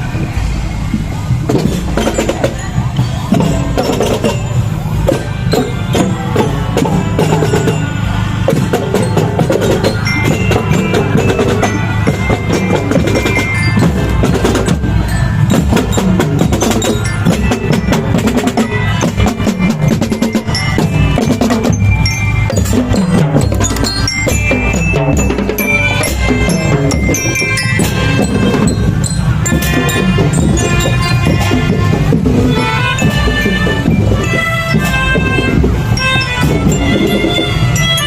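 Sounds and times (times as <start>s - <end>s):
marching band playing: 0.0s - 38.0s
rapid drum strokes: 0.4s - 38.0s
glockenspiel melody: 1.6s - 38.0s.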